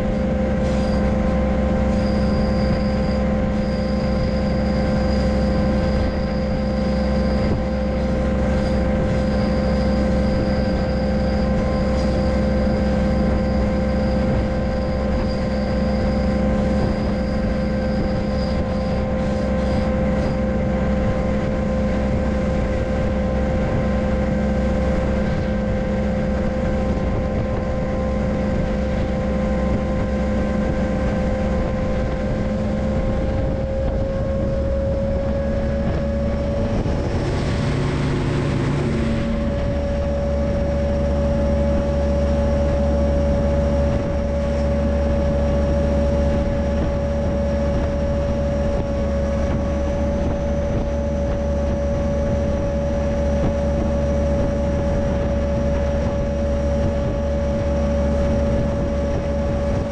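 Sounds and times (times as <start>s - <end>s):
train locomotive drone: 0.0s - 59.9s.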